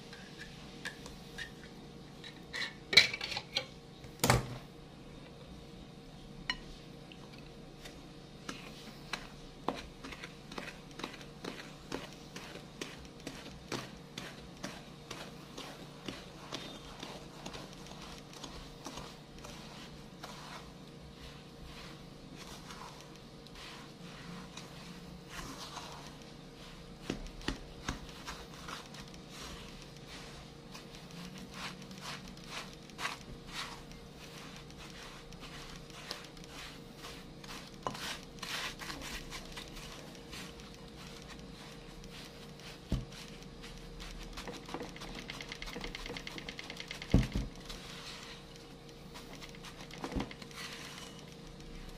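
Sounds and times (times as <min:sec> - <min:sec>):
spatula scraping crumbs in bowl: 0:07.8 - 0:51.9.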